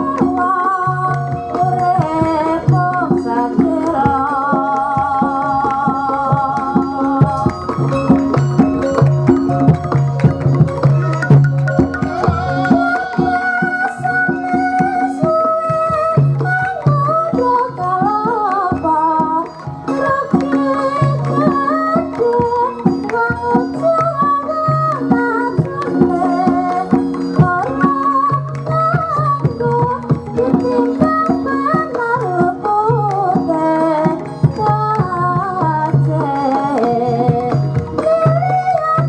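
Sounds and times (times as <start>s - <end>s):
woman singing: 0.0s - 8.4s, 10.7s - 39.0s
hand drum strokes: 0.0s - 39.0s.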